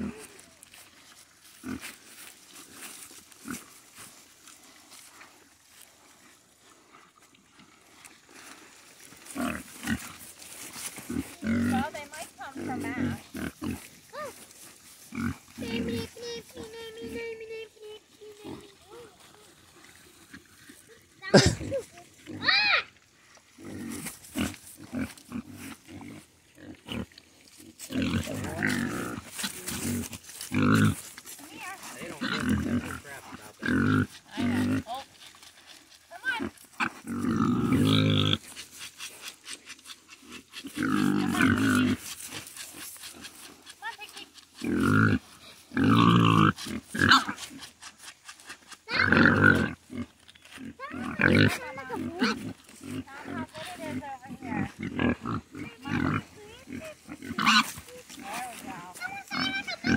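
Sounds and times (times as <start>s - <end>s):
pigs grunting: 0.0s - 0.4s, 3.3s - 3.8s, 5.9s - 22.9s, 23.5s - 59.9s
rustling in grass: 0.0s - 59.9s.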